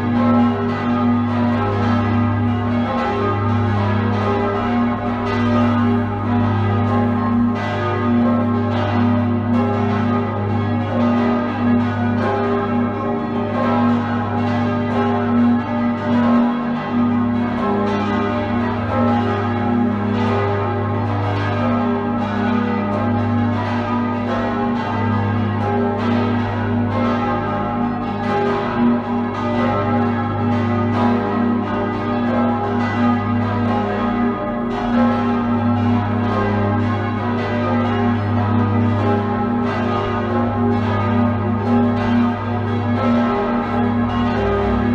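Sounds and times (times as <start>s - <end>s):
church bells pealing: 0.0s - 44.9s.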